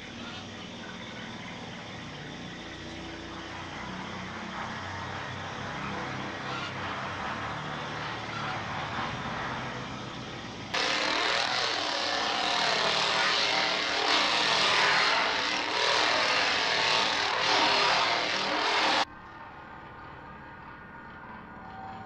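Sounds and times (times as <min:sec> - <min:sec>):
loud wavering engine sound: 0:00.0 - 0:22.0.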